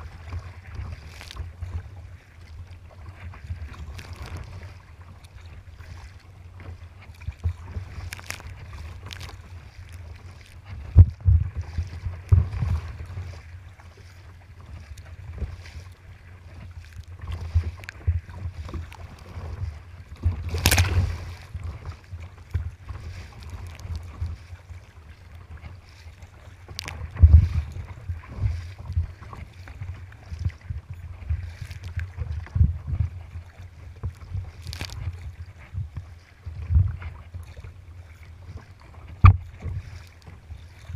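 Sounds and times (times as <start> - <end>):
water splashing against kayak: 0.0 - 40.9
wind buffeting microphone: 7.3 - 40.9.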